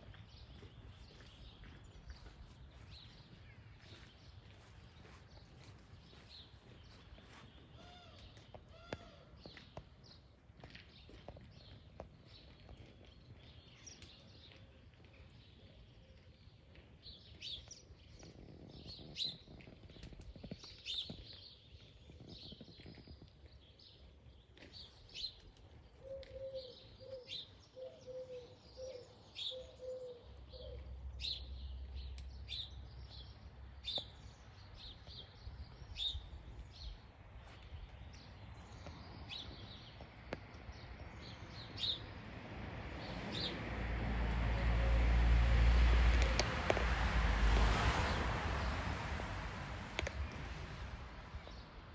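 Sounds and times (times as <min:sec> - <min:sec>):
small birds chirping: 0:00.0 - 0:42.2.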